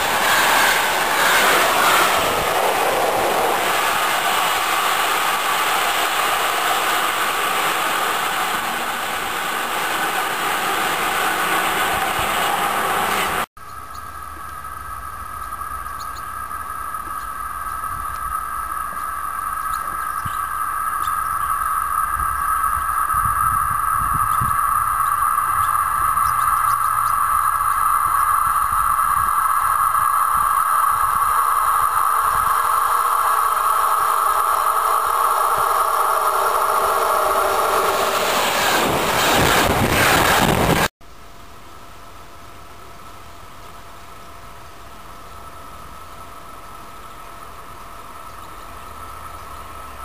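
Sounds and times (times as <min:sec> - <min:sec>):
high-pitched drone: 0:00.0 - 0:40.9
train wheels rolling on rails: 0:00.0 - 0:40.9.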